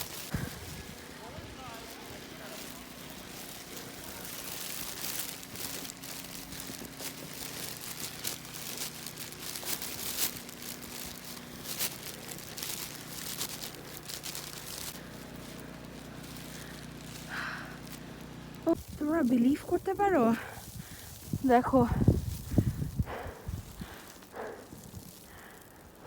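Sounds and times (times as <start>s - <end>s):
footsteps crunching through snow: 0.0s - 26.0s.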